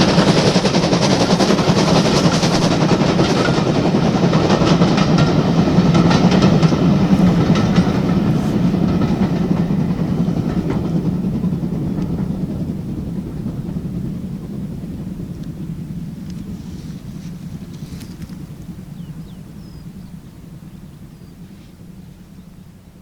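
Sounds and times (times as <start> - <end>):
wheels clicking over rail joints: 0.0 - 18.7
steam train passing: 0.0 - 23.0.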